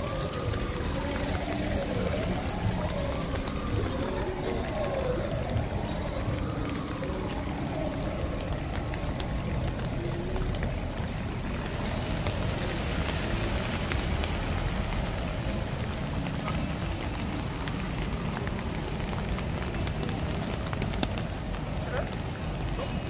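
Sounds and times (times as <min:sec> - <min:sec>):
raindrops ticking on surfaces: 0:00.0 - 0:23.0
traffic hiss on wet pavement: 0:00.0 - 0:23.0.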